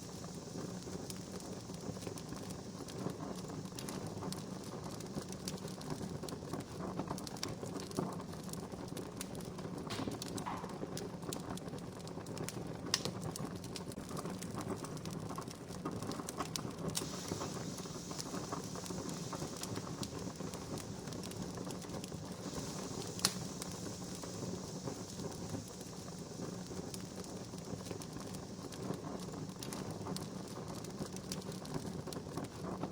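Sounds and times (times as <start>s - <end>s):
wood fire crackling: 0.0s - 32.9s
sharp fire pops: 0.2s - 32.9s.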